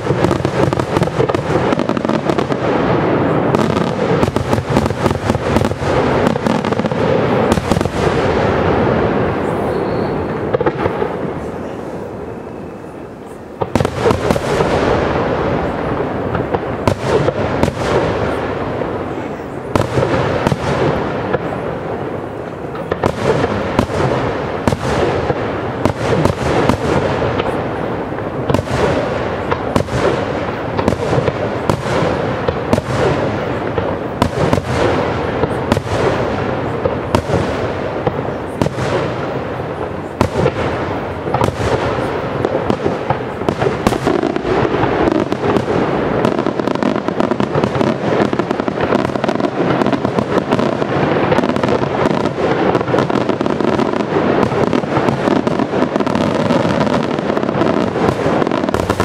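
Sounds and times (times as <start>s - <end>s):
firework bangs: 0.0s - 59.0s.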